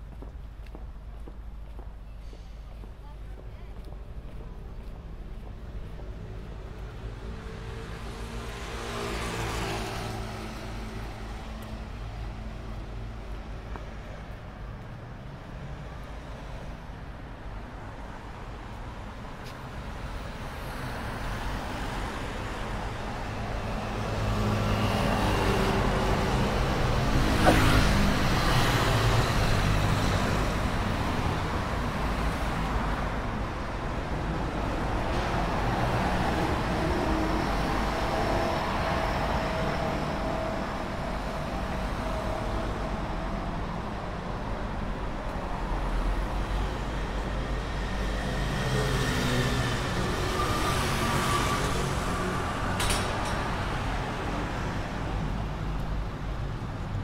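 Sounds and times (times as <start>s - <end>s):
vehicles driving past: 2.8s - 57.0s.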